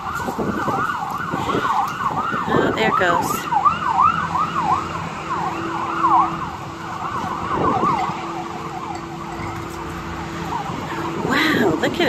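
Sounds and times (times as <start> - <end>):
ambulance siren yelping: 0.0 - 12.0.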